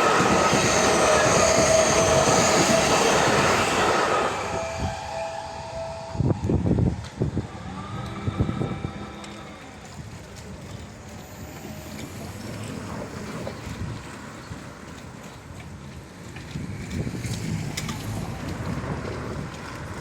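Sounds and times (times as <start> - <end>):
wind noise on microphone: 0.0 - 14.9, 15.7 - 20.0
train wheels on track: 0.0 - 20.0.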